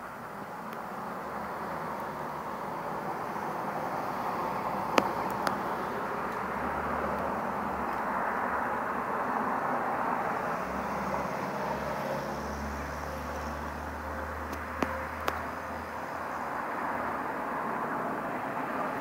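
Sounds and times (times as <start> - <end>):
diesel engine drone: 0.0 - 19.0.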